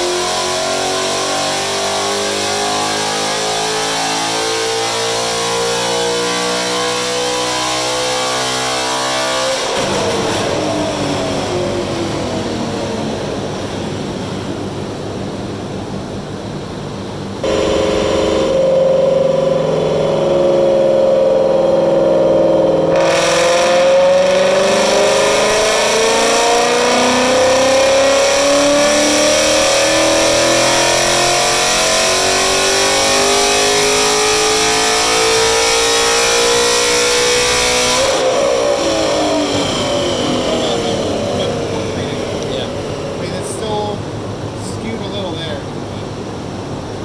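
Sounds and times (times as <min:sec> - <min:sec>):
car engine revving on dyno: 0:00.0 - 0:47.0.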